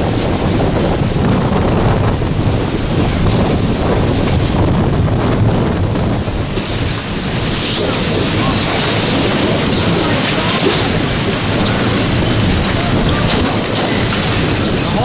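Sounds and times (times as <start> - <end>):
driving rain: 0.0 - 15.0
strong winds gusting: 0.0 - 15.0.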